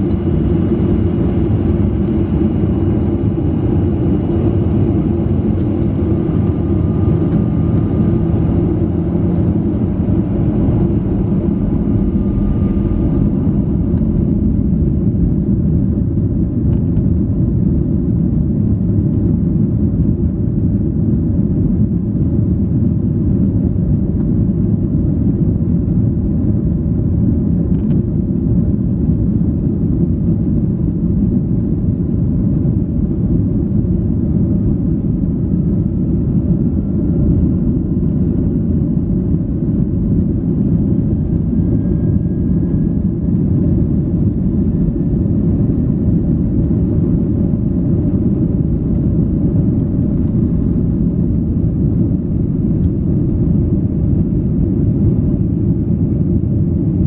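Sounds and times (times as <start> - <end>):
jet cabin engine rumble: 0.0 - 57.0.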